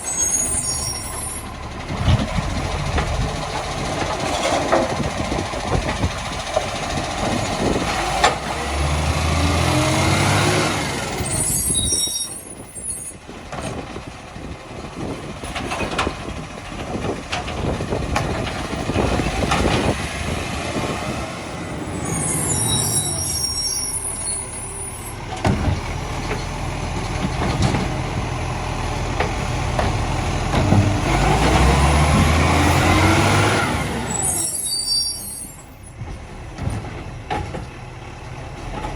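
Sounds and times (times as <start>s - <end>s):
diesel engine revving: 0.0s - 12.0s, 13.4s - 38.9s
hydraulics whining: 0.0s - 38.9s.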